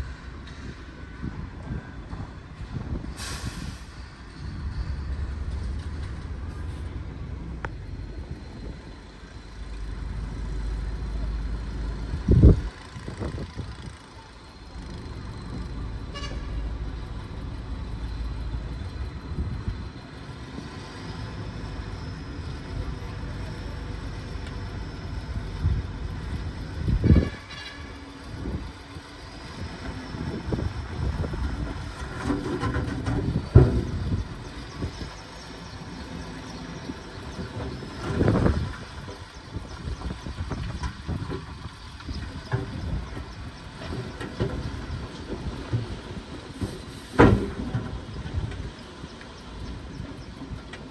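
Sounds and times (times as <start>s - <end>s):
bulldozer engine running: 0.0s - 50.9s
diesel machinery rumbling: 0.0s - 50.9s.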